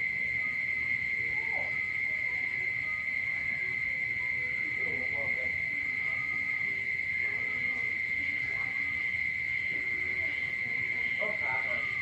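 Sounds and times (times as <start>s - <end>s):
frogs and insects calling: 0.0s - 12.0s.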